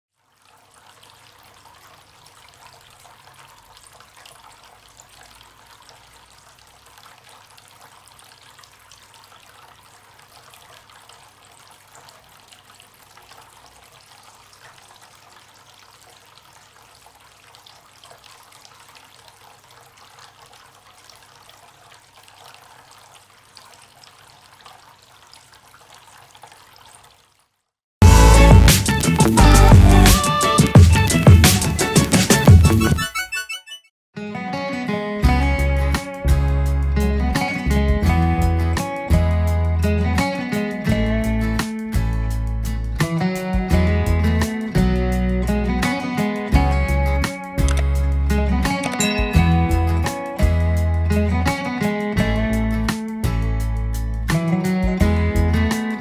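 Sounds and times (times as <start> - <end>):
fountain water trickling: 0.1 - 27.7, 38.3 - 56.0.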